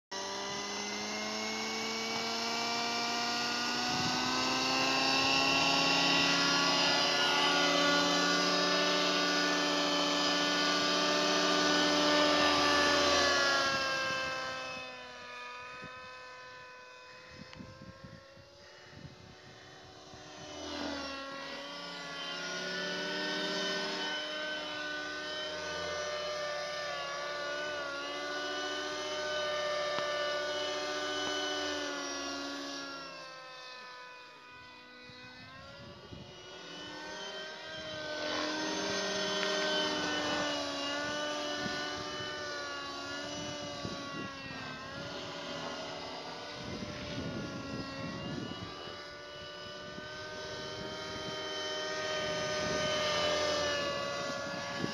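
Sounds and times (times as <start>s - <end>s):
helicopter engine and rotor: 0.1s - 54.9s.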